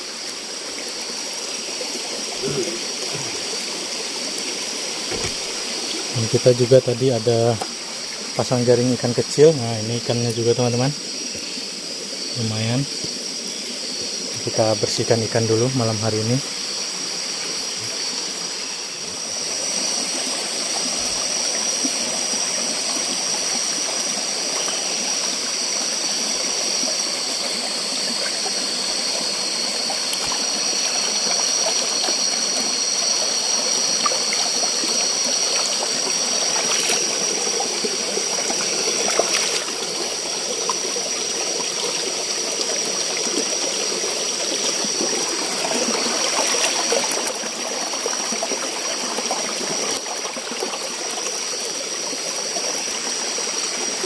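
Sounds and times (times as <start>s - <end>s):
night insects droning: 0.0s - 54.0s
stream water running and splashing: 0.0s - 54.0s.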